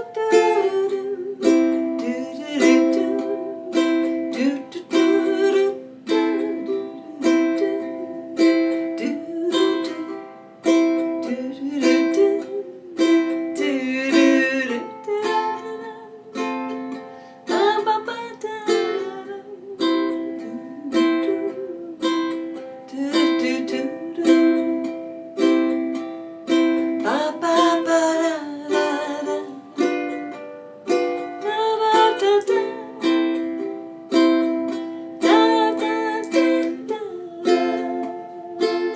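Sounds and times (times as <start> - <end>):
person humming melody: 0.0 - 38.9
ukulele strumming: 0.0 - 38.9.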